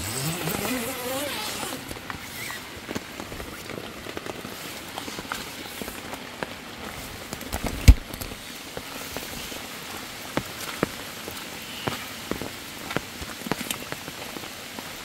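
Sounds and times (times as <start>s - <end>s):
rain pattering on a tent: 0.0s - 15.0s.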